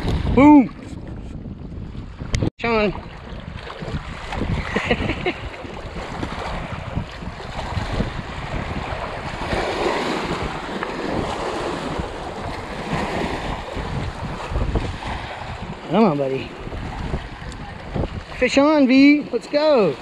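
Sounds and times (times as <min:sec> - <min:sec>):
water lapping against rocky shore: 0:00.0 - 0:20.0
wind buffeting microphone: 0:00.0 - 0:20.0.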